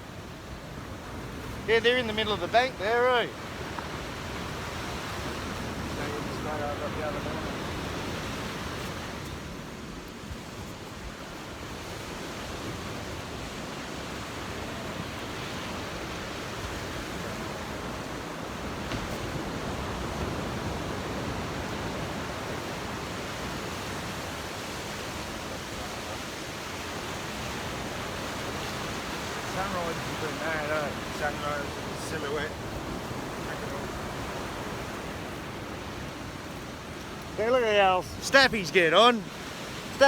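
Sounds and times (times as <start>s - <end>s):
ocean surf on sandy beach: 0.0s - 40.0s.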